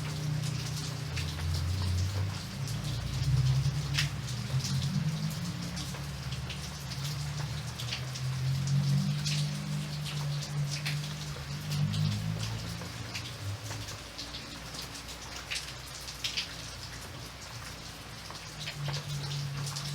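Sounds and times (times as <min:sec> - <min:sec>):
raindrops ticking on a surface: 0:00.0 - 0:19.9.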